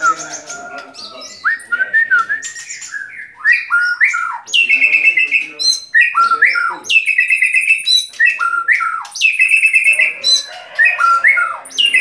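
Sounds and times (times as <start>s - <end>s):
songbird whistling and chattering: 0.0s - 12.0s.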